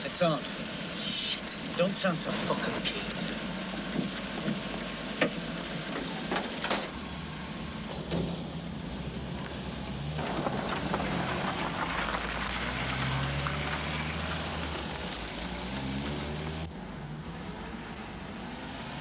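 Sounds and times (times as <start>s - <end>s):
street hum: 0.0s - 19.0s
van engine driving off: 0.0s - 19.0s.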